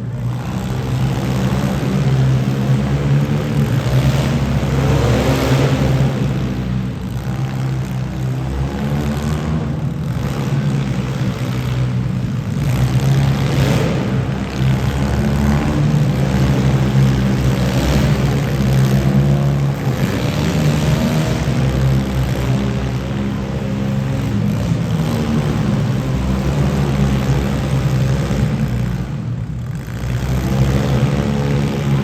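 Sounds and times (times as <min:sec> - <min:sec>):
car engines running loudly: 0:00.0 - 0:32.0.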